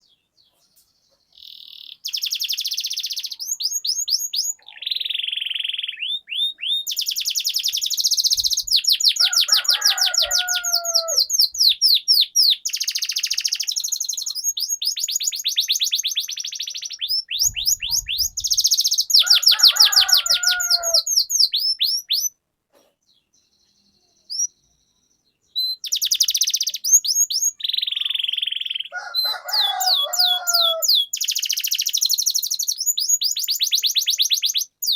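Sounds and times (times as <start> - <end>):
canary singing trills: 0.0 - 22.4, 23.0 - 34.9.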